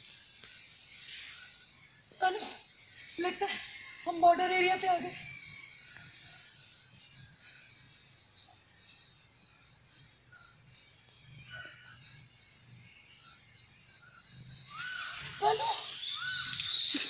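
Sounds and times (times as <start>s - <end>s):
bright insect chirp: 0.0s - 17.0s
high-pitched insect drone: 0.0s - 17.0s.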